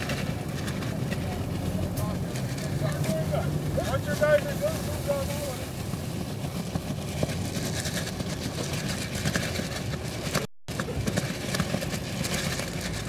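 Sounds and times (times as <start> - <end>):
car engine and road rumble: 0.0 - 13.0
sharp clicks and crackles: 0.0 - 13.0.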